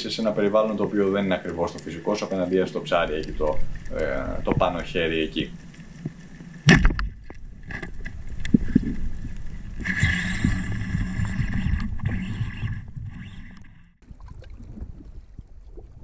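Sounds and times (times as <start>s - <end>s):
underwater rumble of moving water: 0.0s - 16.0s.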